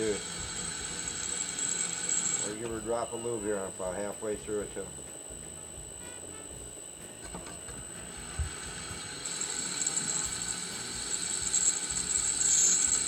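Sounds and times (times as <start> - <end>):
drill bit cutting steel hiss: 0.0 - 13.0
electric drill whine: 0.0 - 13.0.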